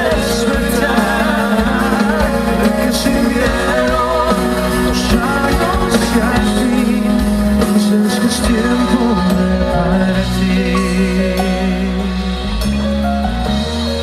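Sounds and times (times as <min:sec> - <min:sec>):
band playing pop ballad: 0:00.0 - 0:14.0.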